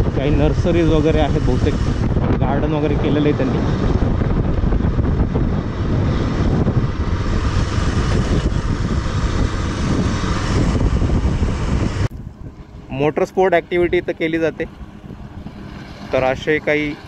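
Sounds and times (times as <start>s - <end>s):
motorcycle engine running: 0.0s - 17.0s
road noise: 0.0s - 17.0s
wind: 0.0s - 17.0s.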